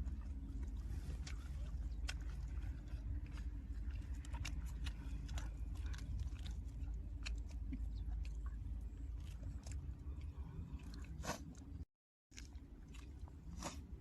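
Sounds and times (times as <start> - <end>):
person chewing crunchy food: 0.0 - 14.0
steady low hum: 0.0 - 14.0.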